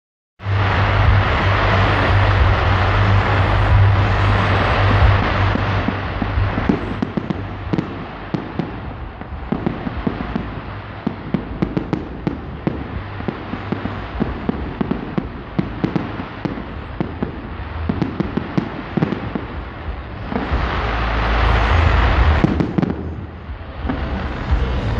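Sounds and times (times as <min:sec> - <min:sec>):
fireworks crackling and banging: 0:00.4 - 0:24.9
low rumble: 0:00.4 - 0:24.9.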